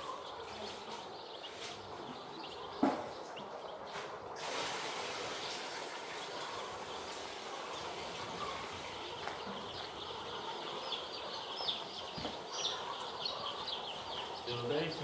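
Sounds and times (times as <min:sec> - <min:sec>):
chicks cheeping: 0:00.0 - 0:04.4, 0:05.2 - 0:15.0.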